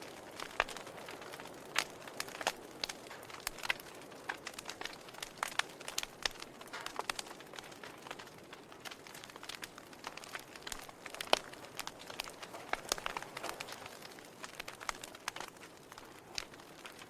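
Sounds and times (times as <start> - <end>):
fire snaps and pops: 0.0 - 17.0
wood fire crackling: 0.0 - 17.0.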